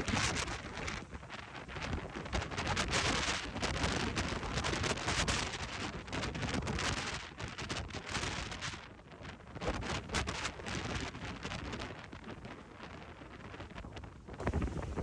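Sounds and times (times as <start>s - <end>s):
rush of wind and rain: 0.0s - 15.0s
wind buffeting microphone: 0.0s - 15.0s.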